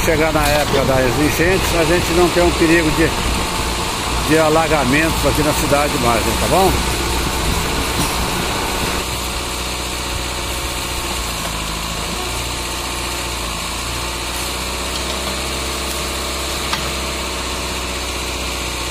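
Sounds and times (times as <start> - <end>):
excavator engine running: 0.0 - 18.9.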